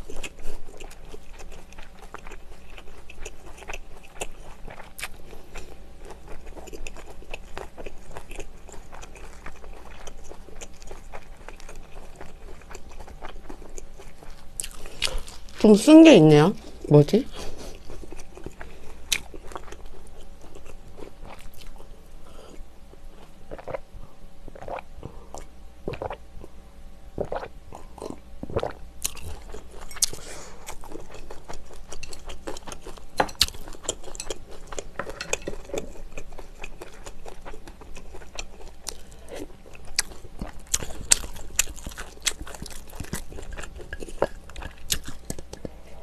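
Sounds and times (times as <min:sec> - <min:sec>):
person chewing and crunching food: 0:00.0 - 0:15.8, 0:16.5 - 0:23.9, 0:24.5 - 0:26.6, 0:27.2 - 0:46.0.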